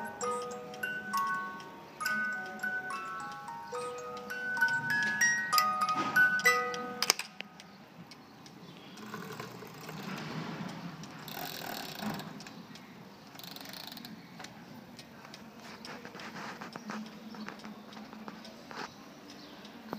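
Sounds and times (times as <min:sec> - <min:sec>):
clock mechanism ticking: 0:00.0 - 0:19.9.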